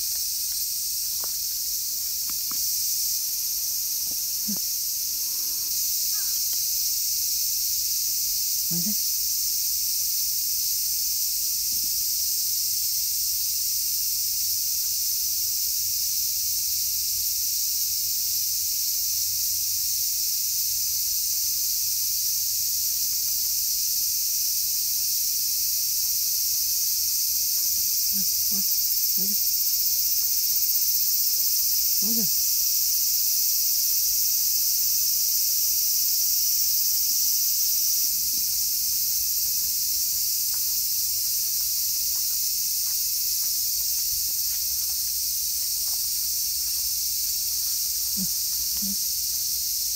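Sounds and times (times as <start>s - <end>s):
insects buzzing and chirring: 0.0s - 49.9s.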